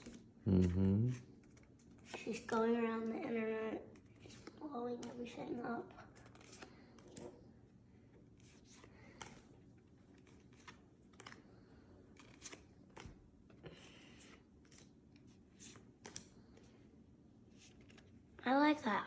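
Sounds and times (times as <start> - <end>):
trading cards clicking and rustling: 0.0 - 7.5, 8.2 - 16.8, 17.5 - 18.4.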